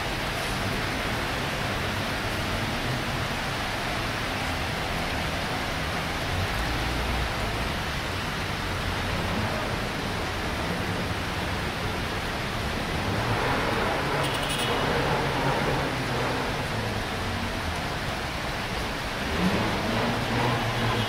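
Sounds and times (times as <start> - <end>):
vehicles ploughing through floodwater: 0.0 - 21.0.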